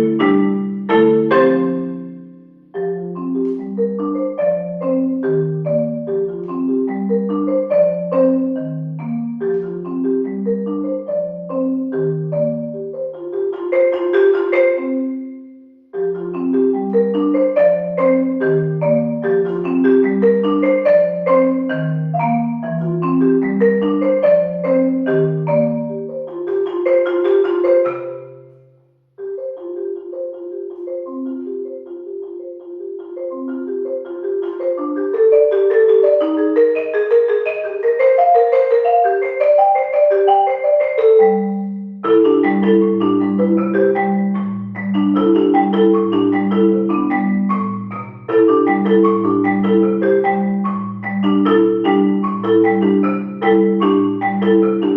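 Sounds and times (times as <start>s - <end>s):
marimba melody: 0.0s - 54.9s.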